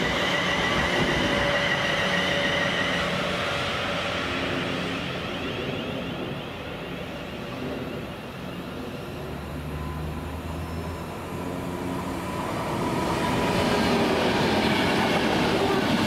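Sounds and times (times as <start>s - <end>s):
train running on rails: 0.0s - 16.0s.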